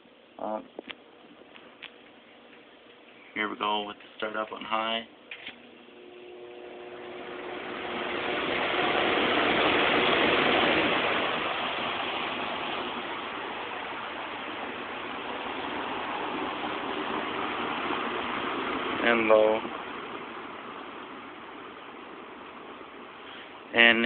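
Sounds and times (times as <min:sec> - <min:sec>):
fan air whoosh: 0:00.0 - 0:24.0
fan motor hum: 0:00.0 - 0:24.0.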